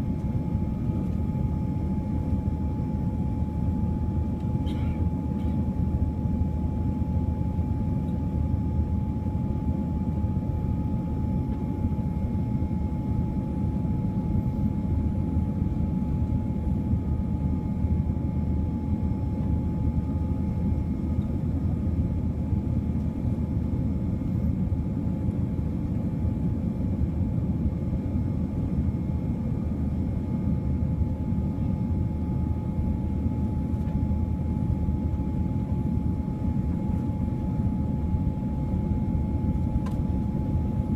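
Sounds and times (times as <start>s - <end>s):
airliner engine and airflow rumble: 0.0s - 40.9s
thin steady whine: 0.0s - 40.9s.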